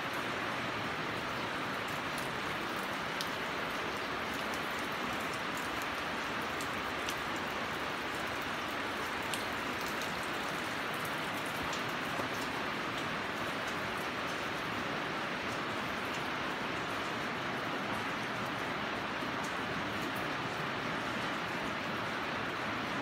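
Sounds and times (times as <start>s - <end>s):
rain drumming on fabric roof: 0.0s - 23.0s.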